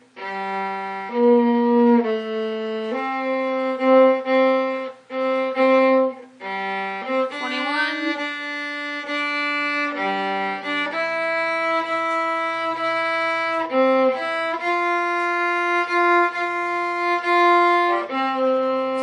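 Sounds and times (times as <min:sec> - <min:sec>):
solo viola melody: 0:00.0 - 0:19.0.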